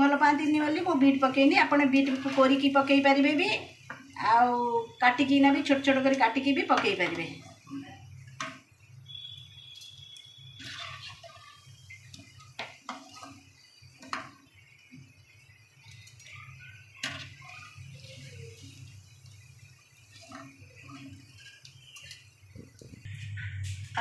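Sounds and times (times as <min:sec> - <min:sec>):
food frying in hot oil: 0:00.0 - 0:24.0.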